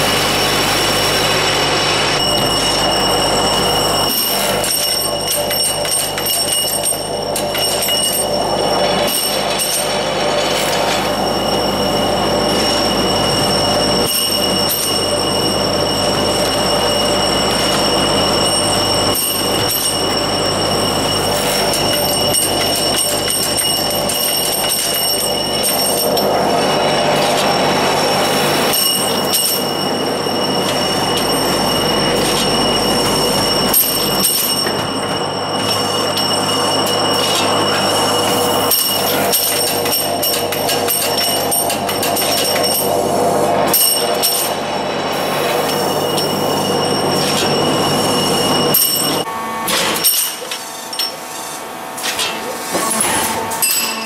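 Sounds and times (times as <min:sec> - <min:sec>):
high whining tones: 0:00.0 - 0:49.5
industrial machine din: 0:00.0 - 0:50.5.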